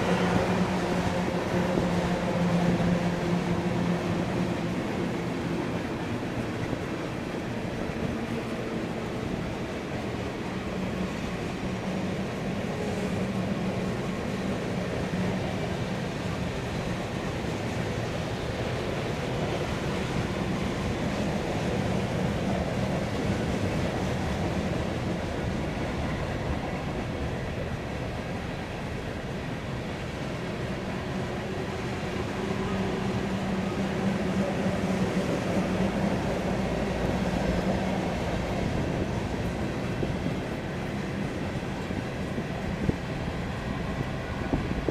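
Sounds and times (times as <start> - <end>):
freight train rumbling past: 0.0 - 44.9.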